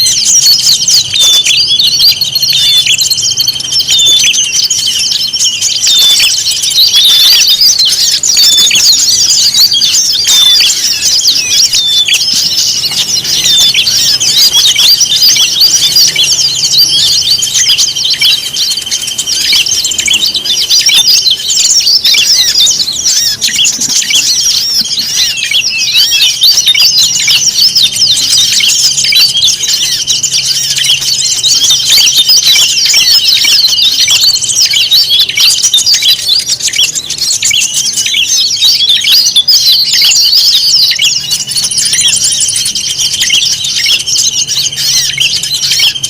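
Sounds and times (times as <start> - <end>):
songbirds chirping and calling: 0.0 - 46.0.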